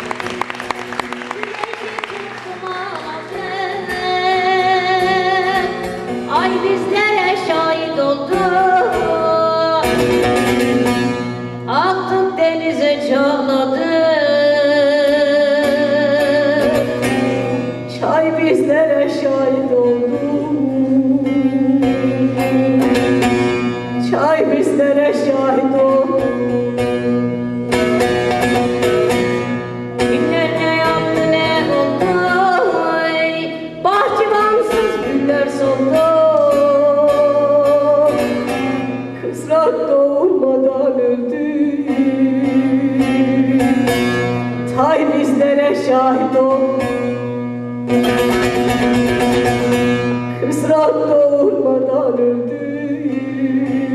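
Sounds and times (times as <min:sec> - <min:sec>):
plucked long-necked lute: 0:00.0 - 0:53.9
woman singing folk song: 0:00.0 - 0:53.9.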